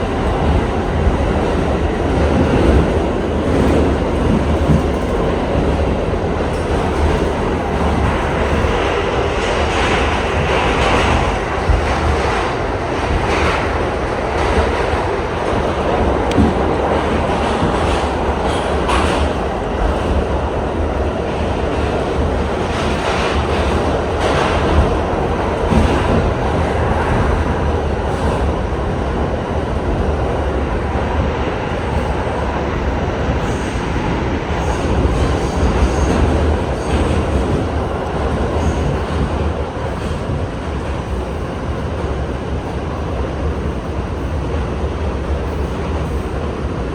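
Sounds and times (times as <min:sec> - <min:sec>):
rail joint clicks: 0:00.0 - 0:46.9
subway train rumbling on track: 0:00.0 - 0:46.9.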